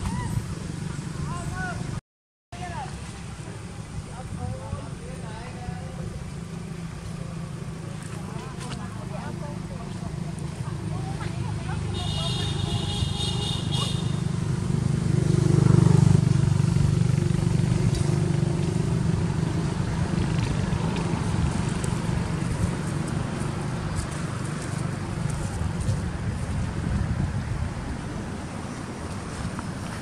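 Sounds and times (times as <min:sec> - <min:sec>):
vehicle engine running: 0:03.4 - 0:30.0.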